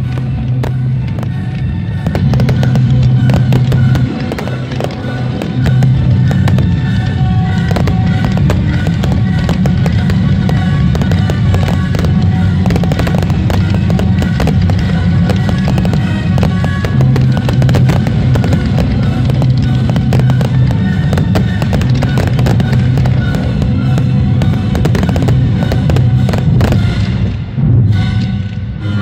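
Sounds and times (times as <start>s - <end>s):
fireworks bangs and crackles: 0.0s - 28.2s
loud music with strong bass: 0.0s - 28.2s.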